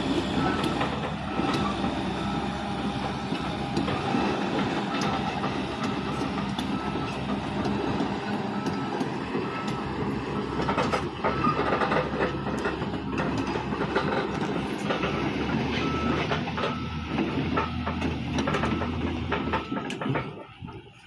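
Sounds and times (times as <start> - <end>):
diesel engine running under load: 0.0 - 21.0
steel tracks clanking: 0.0 - 21.0.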